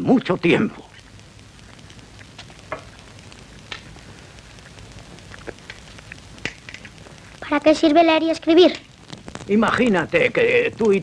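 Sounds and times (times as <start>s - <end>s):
faint crackling background: 0.0s - 11.0s.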